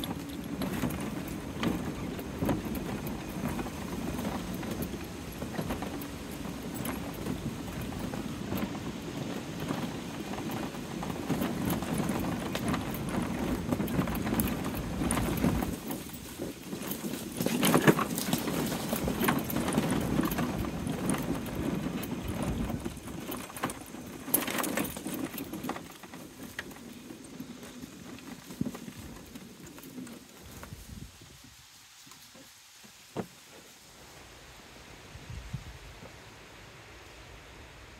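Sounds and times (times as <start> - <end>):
mobility scooter rolling on dirt: 0.0 - 34.4.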